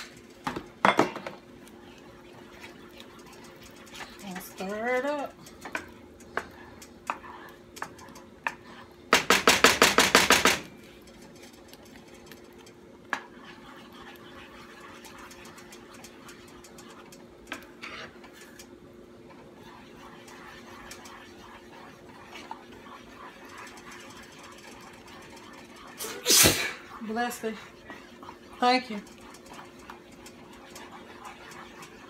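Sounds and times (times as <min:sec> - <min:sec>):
faint steady hum: 0:00.0 - 0:32.0
spoon stirring gravy: 0:00.0 - 0:32.0
wooden spoon scraping skillet: 0:00.0 - 0:32.0.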